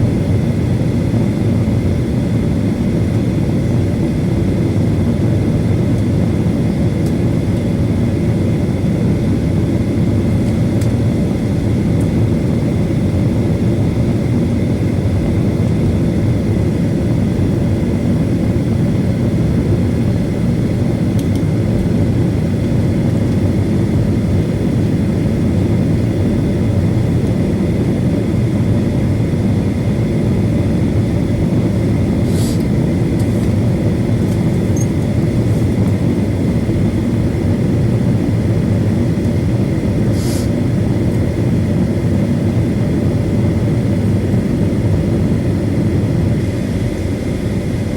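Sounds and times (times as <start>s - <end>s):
jet airliner engines idling: 0.0s - 47.9s.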